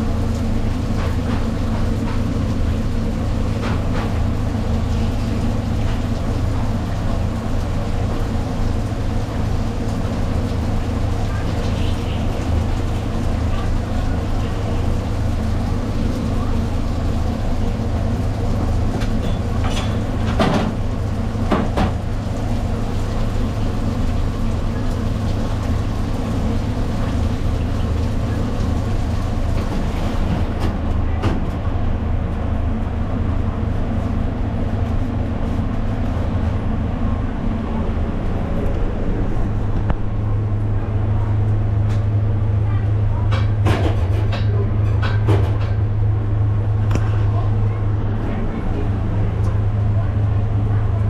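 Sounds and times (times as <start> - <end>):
loud low mechanical hum: 0.0 - 51.0.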